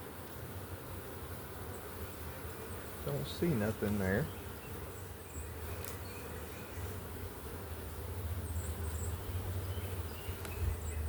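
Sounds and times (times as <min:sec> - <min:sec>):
bee colony humming: 0:00.0 - 0:11.0.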